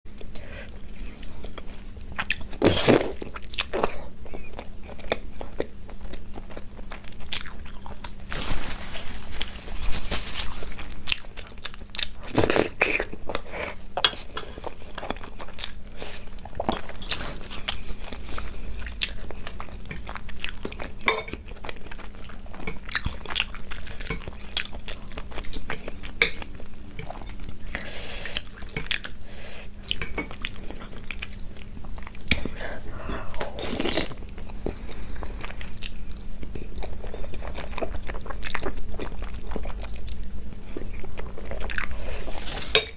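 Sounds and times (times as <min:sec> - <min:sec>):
chewing and crunching: 0:00.1 - 0:42.9.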